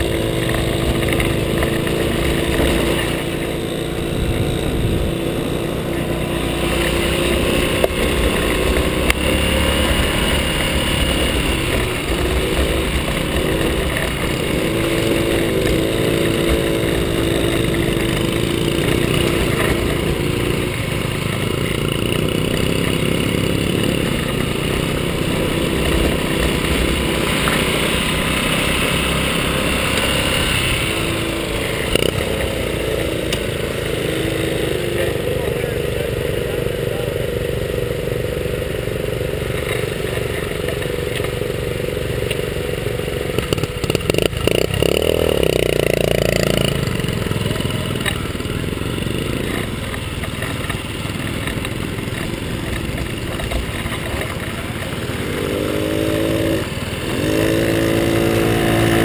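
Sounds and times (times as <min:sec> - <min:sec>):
motorbike engine running: 0:00.0 - 0:59.0.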